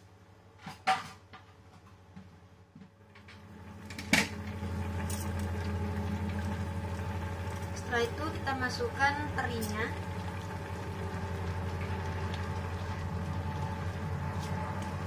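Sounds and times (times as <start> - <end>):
pan simmering: 0.6 - 15.0.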